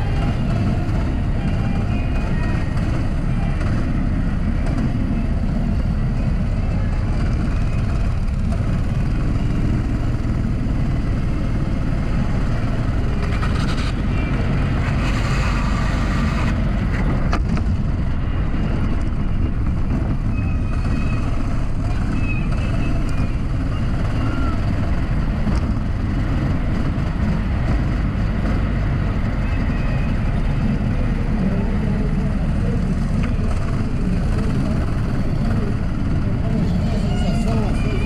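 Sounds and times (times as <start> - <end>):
go-kart engines running: 0.0 - 38.0
heavy low rumble: 0.0 - 38.0.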